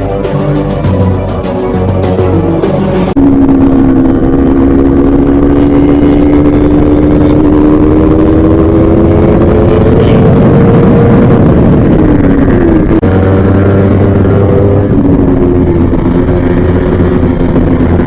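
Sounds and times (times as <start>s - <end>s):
motorcycle engine revving high: 0.0s - 18.0s.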